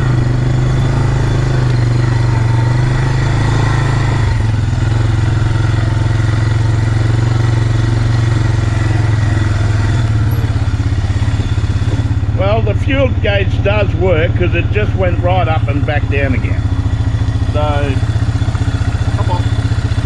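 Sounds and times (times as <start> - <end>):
quad bike engine ticking over: 0.0 - 20.0.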